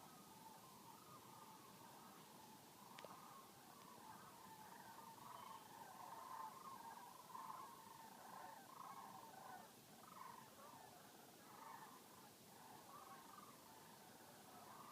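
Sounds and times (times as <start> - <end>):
distant chorus of animal calls: 0.0 - 14.9.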